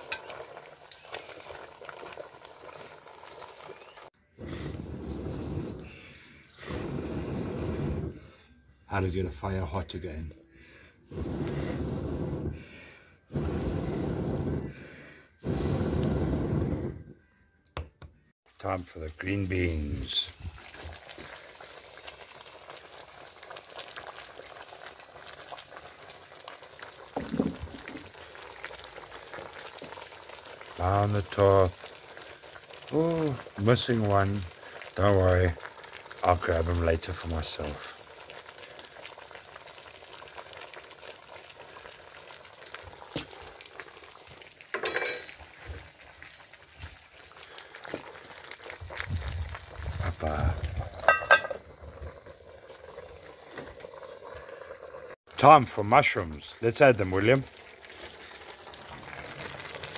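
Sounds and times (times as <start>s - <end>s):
stew bubbling: 0.0s - 8.6s, 9.5s - 17.1s, 19.1s - 59.9s
faint fire crackles: 0.0s - 59.9s.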